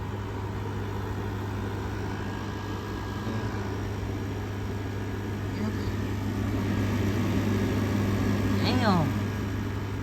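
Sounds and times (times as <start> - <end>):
air conditioner compressor hum: 0.0 - 10.0
fan rushing: 0.0 - 10.0.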